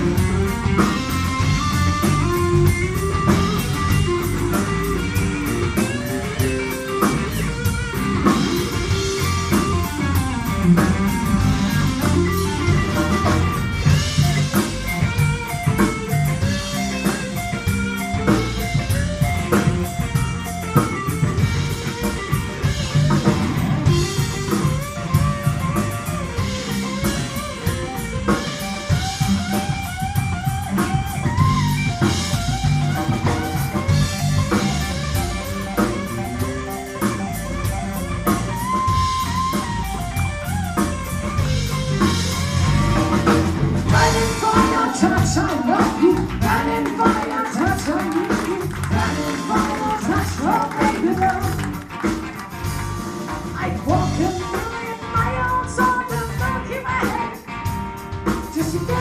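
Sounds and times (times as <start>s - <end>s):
electric guitar bending notes: 0.0s - 59.0s
rock band playing: 0.0s - 59.0s.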